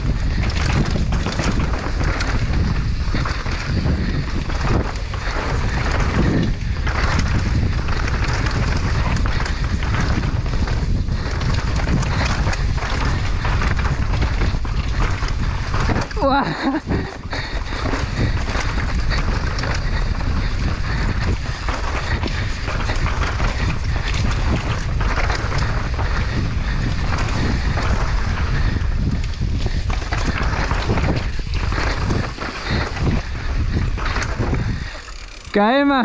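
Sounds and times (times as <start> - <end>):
bike rattling over bumps: 0.0 - 36.0
bike tyres crunching on dirt: 0.0 - 36.0
wind buffeting microphone: 0.0 - 36.0.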